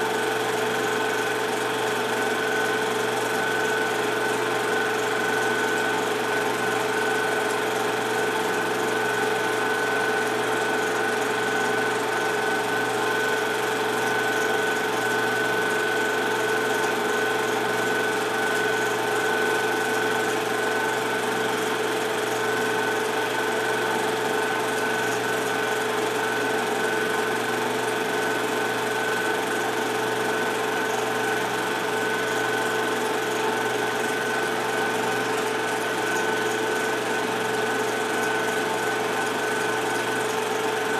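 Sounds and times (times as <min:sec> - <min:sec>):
movie projector whirring: 0:00.0 - 0:40.9.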